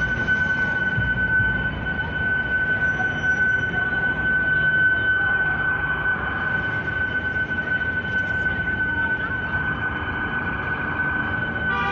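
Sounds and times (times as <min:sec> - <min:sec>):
alarm high steady tone: 0:00.0 - 0:11.9
loud street noise: 0:00.0 - 0:11.9.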